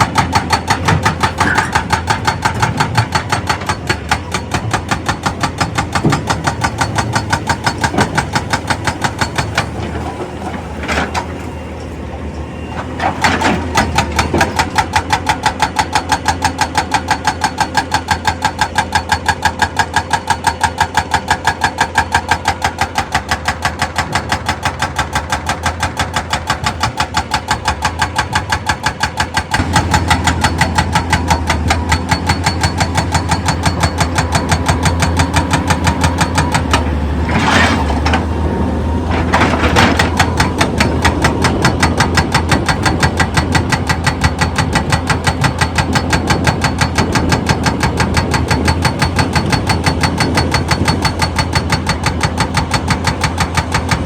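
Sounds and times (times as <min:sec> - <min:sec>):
heavy machinery running: 0:00.0 - 0:54.0.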